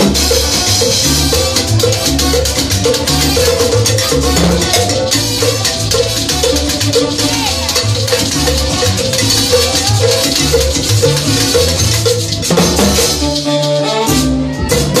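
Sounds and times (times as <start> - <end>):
repeating bass line: 0.0 - 15.0
salsa music: 0.0 - 15.0.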